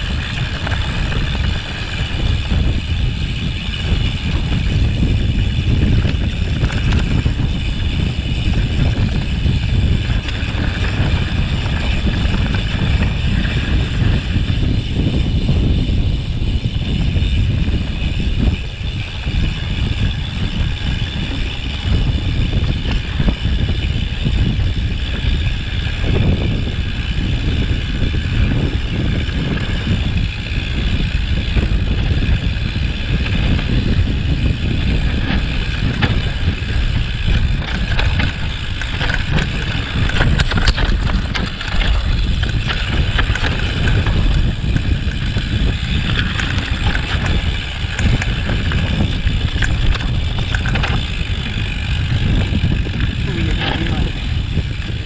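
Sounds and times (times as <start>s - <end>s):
bike jolts and rattles: 0.0s - 55.0s
bike tyres over rocks: 0.0s - 55.0s
wind on microphone: 0.0s - 55.0s.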